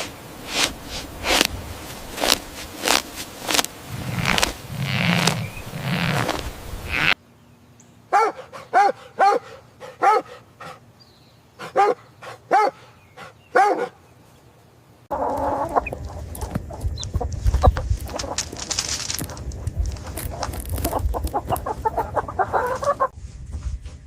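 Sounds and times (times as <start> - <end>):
farm background noise: 0.0 - 24.0.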